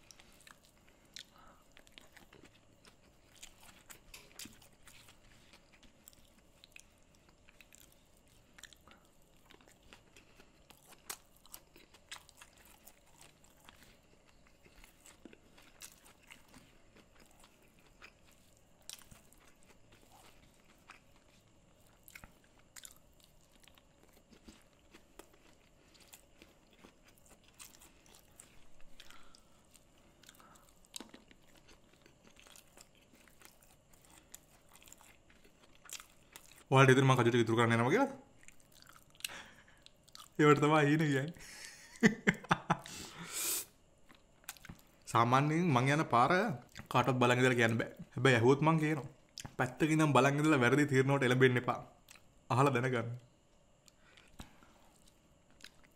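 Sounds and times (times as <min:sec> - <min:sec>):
crunchy chewing: 0:00.0 - 0:43.2, 0:44.0 - 0:45.5, 0:46.4 - 0:50.6, 0:53.8 - 0:55.9.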